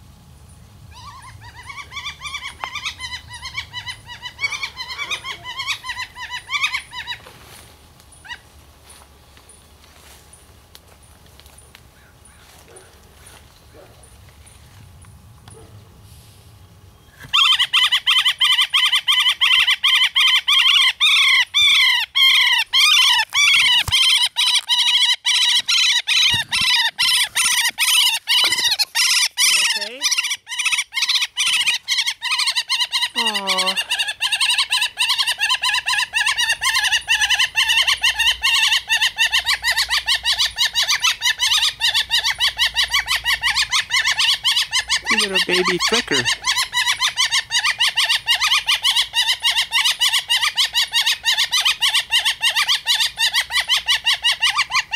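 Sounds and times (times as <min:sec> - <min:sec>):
young bird calling rapidly: 0:00.9 - 0:07.3, 0:17.2 - 0:54.9.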